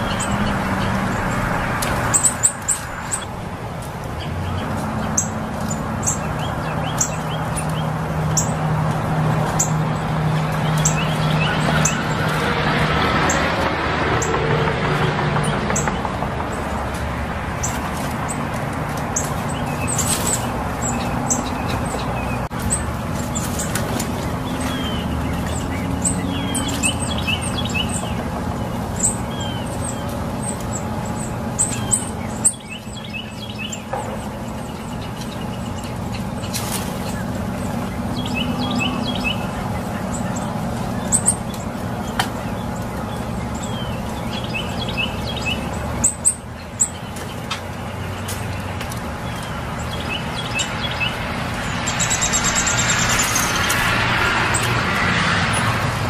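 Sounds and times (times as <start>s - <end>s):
low rumble of vehicles: 0.0s - 56.0s
small birds chirping: 0.0s - 56.0s.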